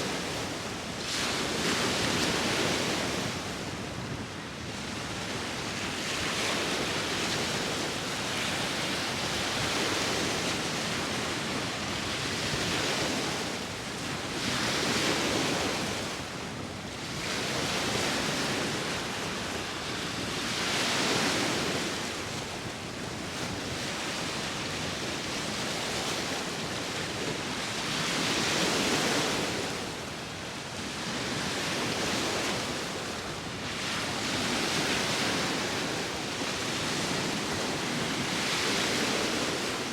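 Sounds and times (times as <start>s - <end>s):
sea waves breaking on shore: 0.0s - 39.9s
wind: 0.0s - 39.9s.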